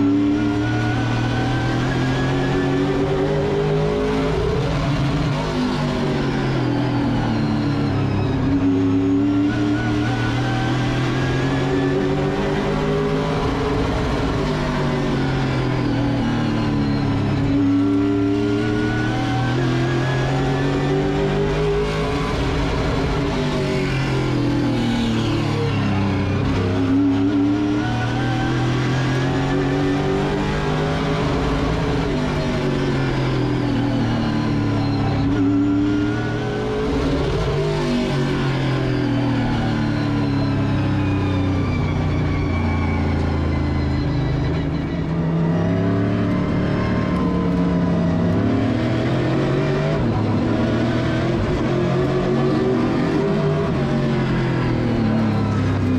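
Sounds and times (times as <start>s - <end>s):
racing engine revving: 0.0s - 55.9s.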